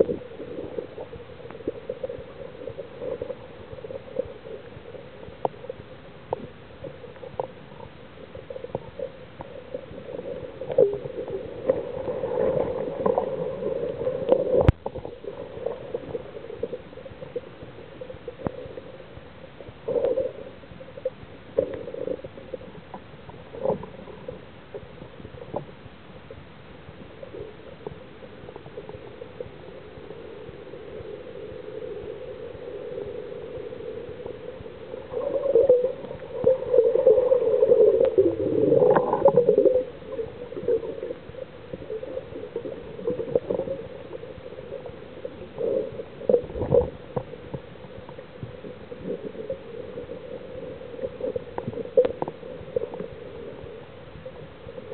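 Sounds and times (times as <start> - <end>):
muffled underwater hum: 0.0 - 54.9.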